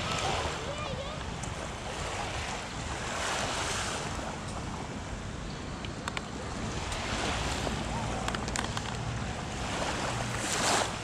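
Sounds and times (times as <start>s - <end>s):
waves washing on sandy beach: 0.0s - 11.0s
wind rumbling on microphone: 0.0s - 11.0s.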